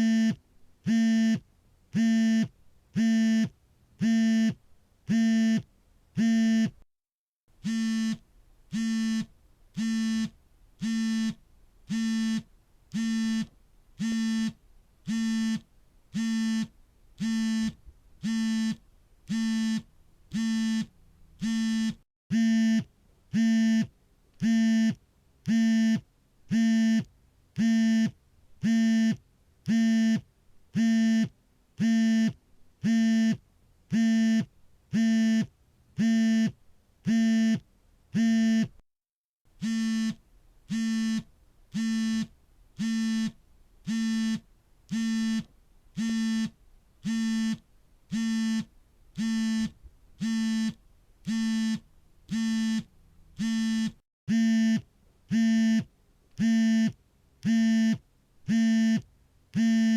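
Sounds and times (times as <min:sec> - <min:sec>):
smartphone vibrating: 0:00.0 - 0:01.4, 0:02.0 - 0:05.6, 0:06.2 - 0:06.8, 0:07.6 - 0:30.2, 0:30.8 - 0:37.6, 0:38.2 - 0:38.7, 0:39.6 - 0:59.9.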